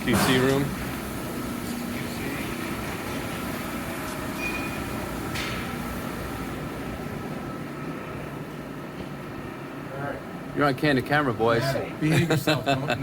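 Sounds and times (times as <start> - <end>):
machinery and ventilation running: 0.0 - 13.0.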